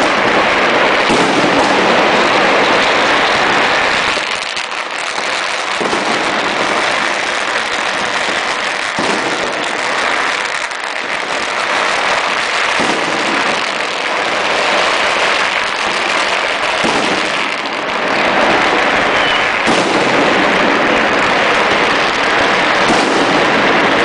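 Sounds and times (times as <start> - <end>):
fireworks and firecrackers crackling: 0.0 - 24.0.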